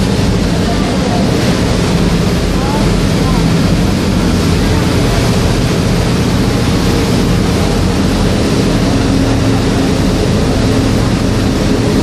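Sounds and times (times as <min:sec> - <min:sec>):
boat engine drone: 0:00.0 - 0:12.0
hiss of wind and water: 0:00.0 - 0:12.0.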